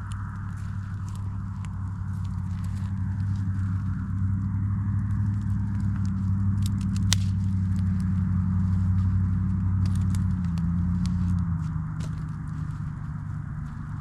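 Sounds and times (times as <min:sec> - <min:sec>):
campfire crackling: 0:00.0 - 0:14.0
steady low hum: 0:00.0 - 0:14.0.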